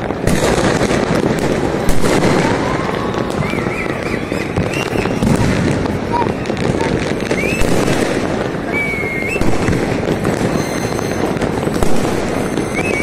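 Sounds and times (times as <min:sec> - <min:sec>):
fireworks crackling and popping: 0:00.0 - 0:13.0
loud firework bang: 0:00.0 - 0:13.0.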